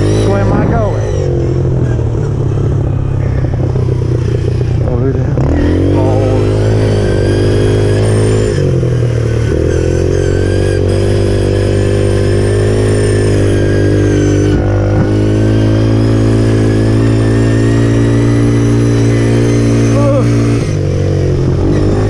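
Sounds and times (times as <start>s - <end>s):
motorbike engine running: 0.0s - 22.0s.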